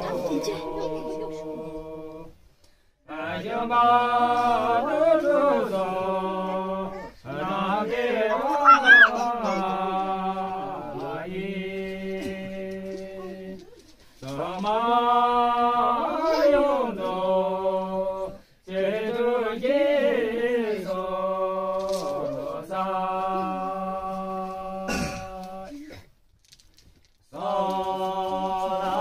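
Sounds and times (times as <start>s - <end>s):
men singing unaccompanied: 0.0s - 2.4s, 3.0s - 25.8s, 27.3s - 29.0s.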